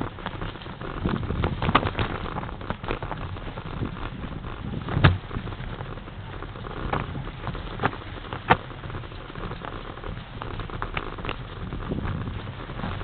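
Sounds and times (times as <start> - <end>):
bike and camera rattling: 0.0 - 13.0
bike tyres on snow: 0.0 - 13.0
sharp knocks over bumps: 0.0 - 13.0.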